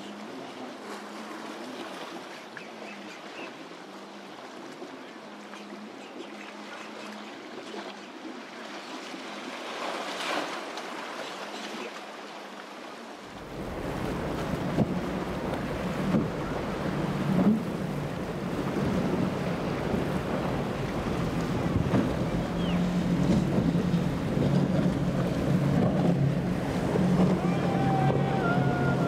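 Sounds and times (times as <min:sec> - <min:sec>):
waves breaking and water rushing: 0:00.0 - 0:29.0.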